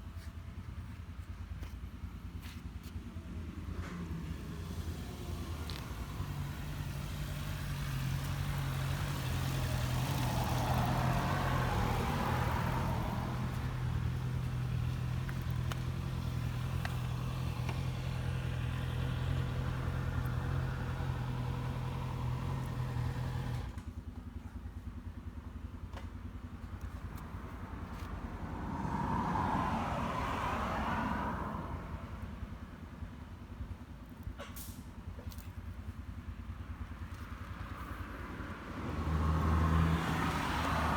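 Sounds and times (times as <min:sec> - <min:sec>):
motorcycle engine idling: 0:00.0 - 0:28.4, 0:32.1 - 0:38.6.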